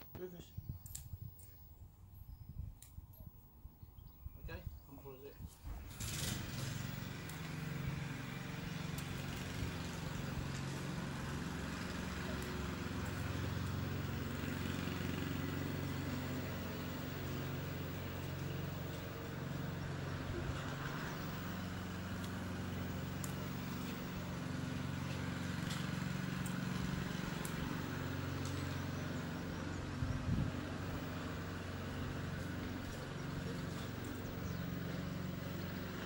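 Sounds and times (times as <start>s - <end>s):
motor humming: 5.7s - 36.0s.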